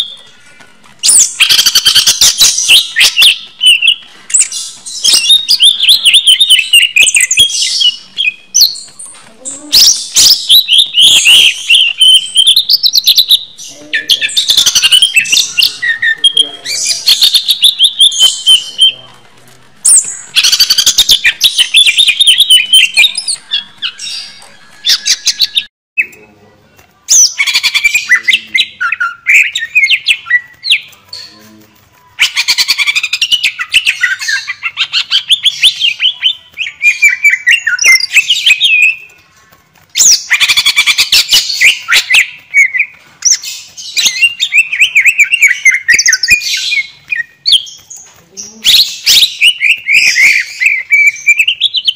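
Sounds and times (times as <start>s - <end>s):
leafbird singing: 0.0s - 51.9s.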